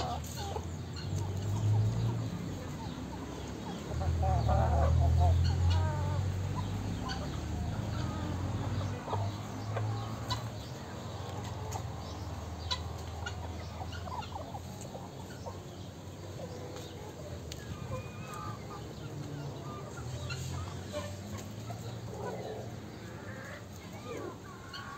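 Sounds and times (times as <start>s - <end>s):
young chickens clucking: 0.0s - 24.9s.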